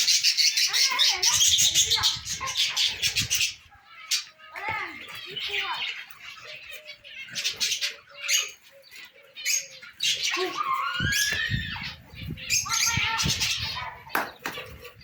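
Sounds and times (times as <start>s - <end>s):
caged birds chirping and squawking: 0.0s - 15.0s.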